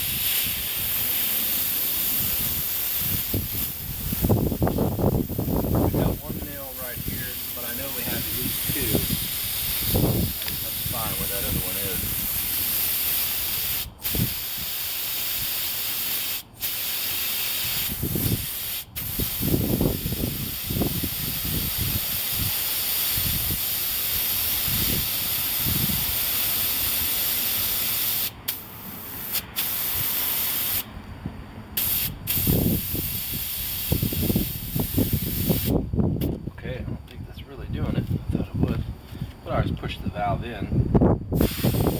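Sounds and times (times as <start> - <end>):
air hissing out of tire: 0.0 - 31.0, 31.7 - 36.4, 41.3 - 41.9.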